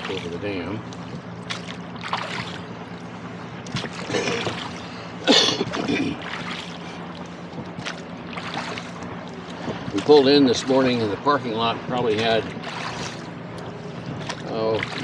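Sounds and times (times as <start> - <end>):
oars splashing in water: 0.0 - 15.0.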